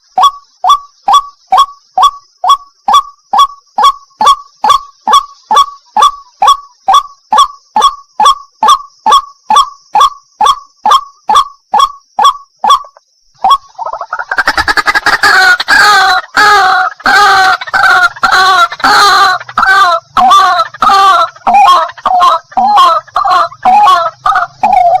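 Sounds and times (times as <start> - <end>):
bird calling sharp notes: 0.0 - 25.0
steady high hiss: 0.0 - 25.0.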